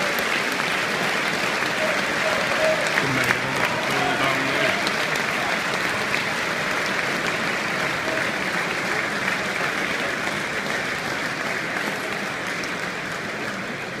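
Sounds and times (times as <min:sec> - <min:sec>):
stadium crowd applauding: 0:00.0 - 0:14.0.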